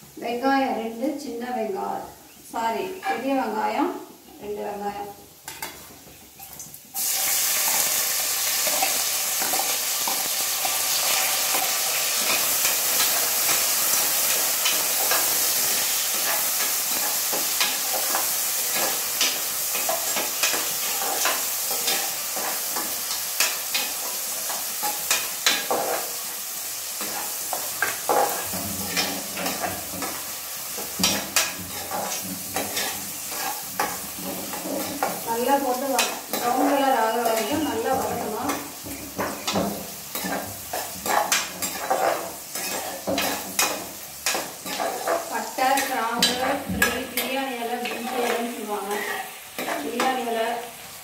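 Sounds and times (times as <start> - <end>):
onions sizzling in oil: 0.0 - 51.0.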